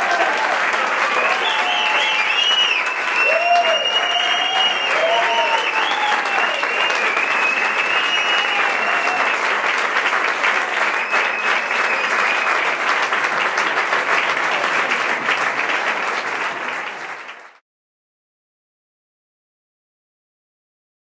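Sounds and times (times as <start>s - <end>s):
audience applauding and cheering: 0.0s - 17.6s.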